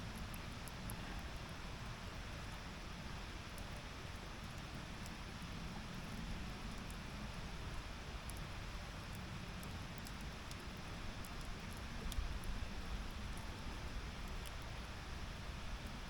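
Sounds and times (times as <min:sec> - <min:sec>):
campfire crackling and popping: 0:00.1 - 0:16.0.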